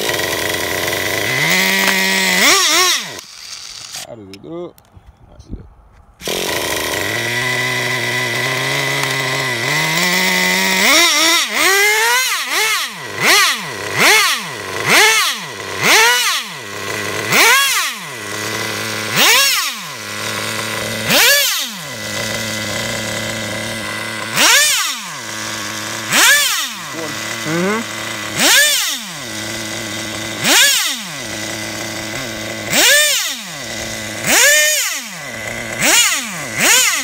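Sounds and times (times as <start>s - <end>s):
nitro engine idling and revving: 0.0s - 4.4s, 6.1s - 37.0s.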